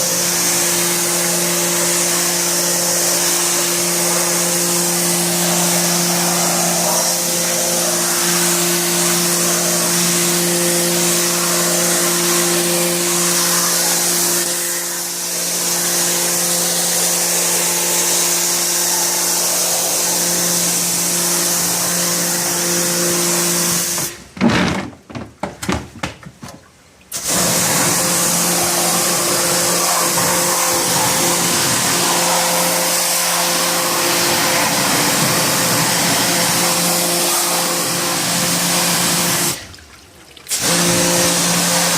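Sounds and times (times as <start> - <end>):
cleaning machine motor humming: 0.0 - 24.0, 27.2 - 39.6, 40.6 - 41.9.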